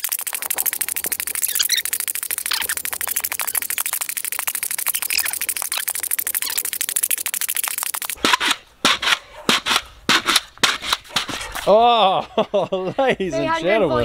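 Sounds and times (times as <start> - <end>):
pogo stick bouncing on concrete: 0.0 - 11.7.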